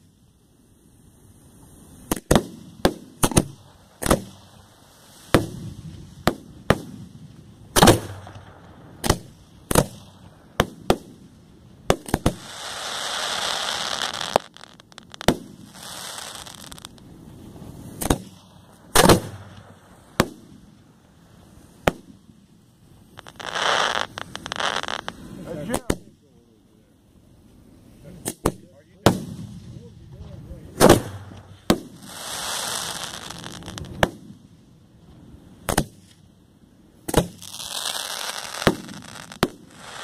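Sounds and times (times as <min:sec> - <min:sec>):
fireworks hissing rush: 0:00.0 - 0:40.0
fireworks bangs: 0:01.6 - 0:26.5, 0:28.0 - 0:36.2, 0:37.0 - 0:40.0.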